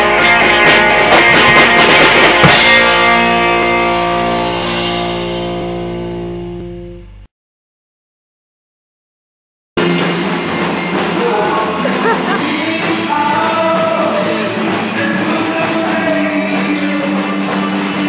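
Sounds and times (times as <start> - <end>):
rock music with singing: 0.0 - 6.6, 9.8 - 18.0.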